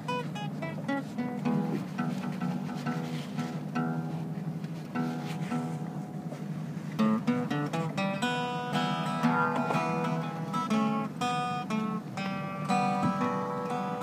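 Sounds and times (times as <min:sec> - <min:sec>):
plucked string instruments playing jazz: 0:00.0 - 0:14.0.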